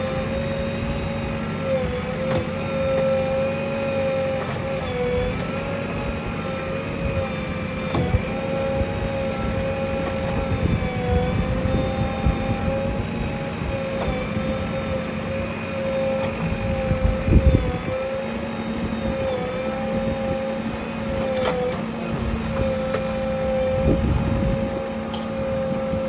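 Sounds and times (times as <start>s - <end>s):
backhoe diesel engine whining: 0.0s - 26.0s.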